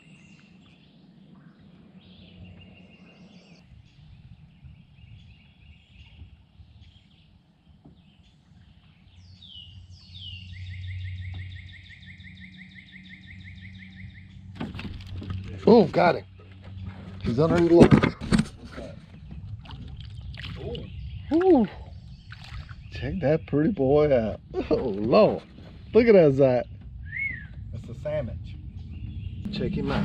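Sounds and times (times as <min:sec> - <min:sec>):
birds singing and calling: 0:00.0 - 0:30.0
low steady rumble: 0:00.0 - 0:30.0.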